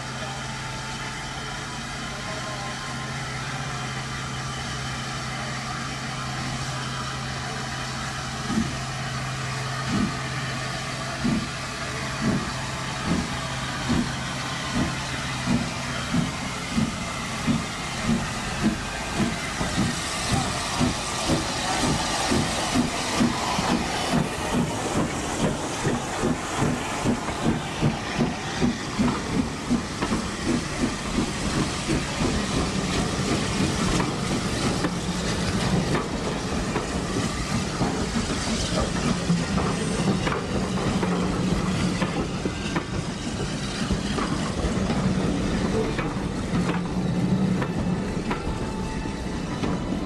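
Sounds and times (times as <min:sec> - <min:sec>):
hiss of steam: 0:00.0 - 0:50.0
steam locomotive exhaust beats: 0:00.0 - 0:50.0
train coaches rumbling past: 0:00.0 - 0:50.0.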